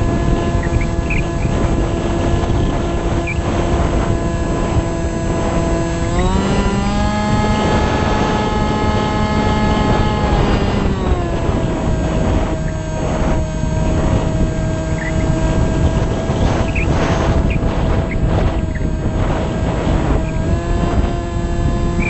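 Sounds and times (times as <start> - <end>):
heavy wind rush: 0.0 - 22.0
model plane motor whining: 0.0 - 22.0.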